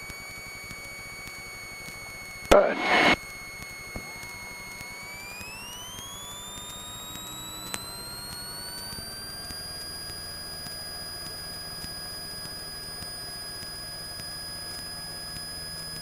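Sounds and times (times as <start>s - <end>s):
airplane engine whine: 1.7s - 16.0s.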